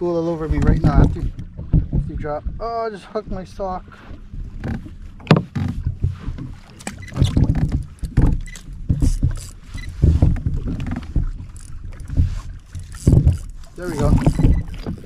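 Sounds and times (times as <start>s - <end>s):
gear clunking on kayak hull: 0.0s - 15.0s.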